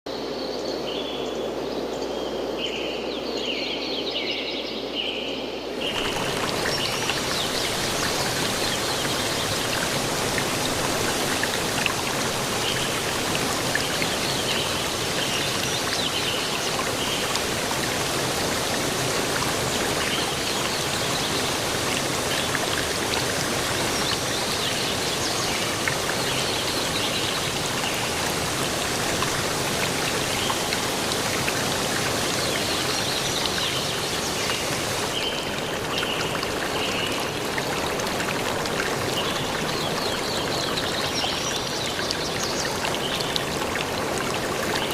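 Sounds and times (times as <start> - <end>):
running water: 5.7 - 44.9.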